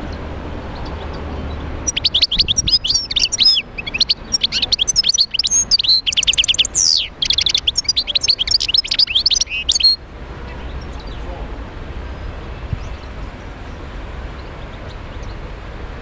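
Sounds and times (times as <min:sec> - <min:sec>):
bird twittering and trilling: 0:00.0 - 0:11.3, 0:12.1 - 0:15.5.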